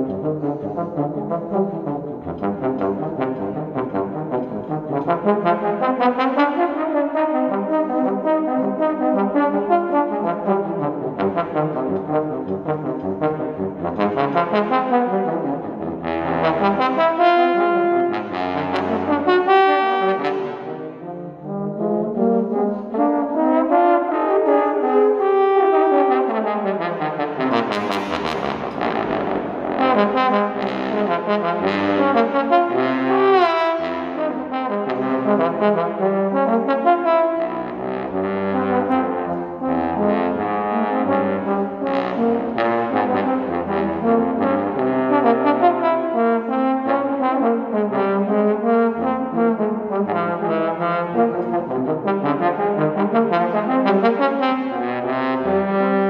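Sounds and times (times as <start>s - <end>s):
brass duet: 0.0s - 56.0s
trombone slides: 0.0s - 56.0s.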